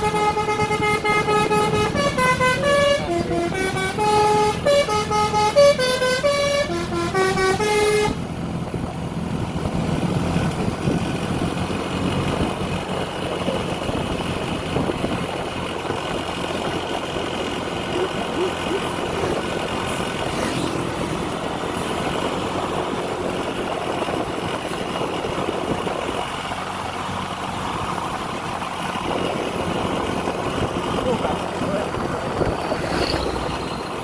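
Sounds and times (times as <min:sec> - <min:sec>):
traffic noise: 0:00.0 - 0:34.0
vehicle engine idling: 0:00.0 - 0:34.0.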